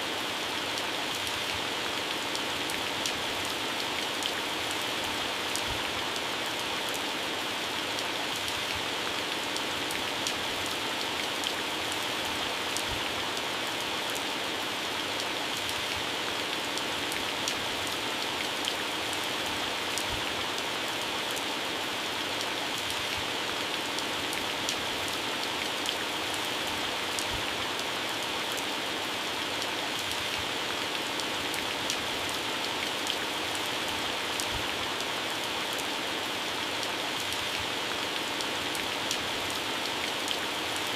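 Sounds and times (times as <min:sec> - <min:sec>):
heavy rain on plants: 0:00.0 - 0:40.9.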